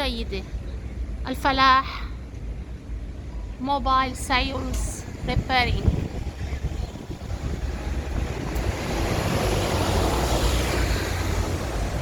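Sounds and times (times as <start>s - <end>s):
road traffic passing: 0.0s - 12.0s
wind rumbling on microphone: 2.1s - 12.0s.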